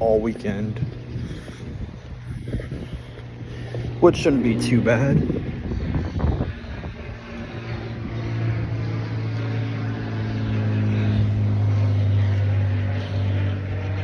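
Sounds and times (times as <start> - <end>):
vehicle engine passing by: 0.0 - 14.0.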